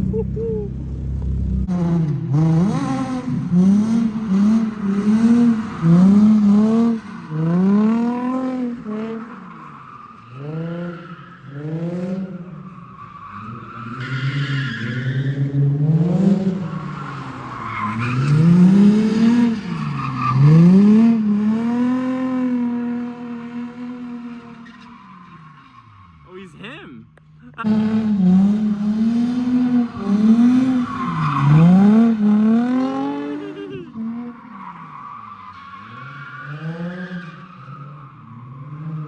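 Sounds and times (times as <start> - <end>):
car engine revving: 0.0 - 26.3, 27.1 - 39.0.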